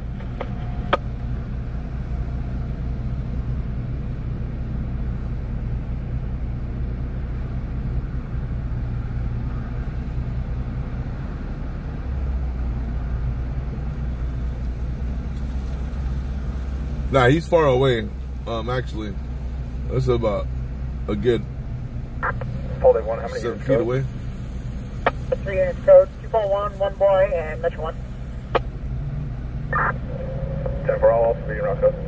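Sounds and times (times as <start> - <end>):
engine hum: 0.0 - 32.0
traffic rumble: 0.0 - 32.0.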